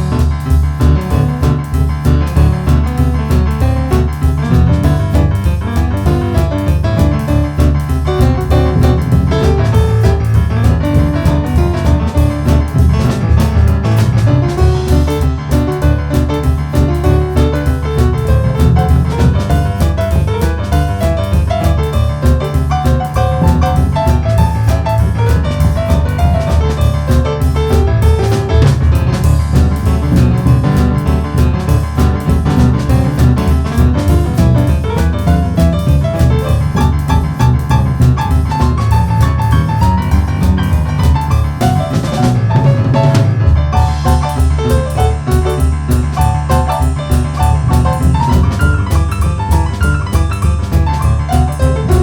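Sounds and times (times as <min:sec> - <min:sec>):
boogie-woogie piano: 0:00.0 - 0:52.0
drum hits: 0:00.0 - 0:52.0
pulsing bass line: 0:00.0 - 0:52.0.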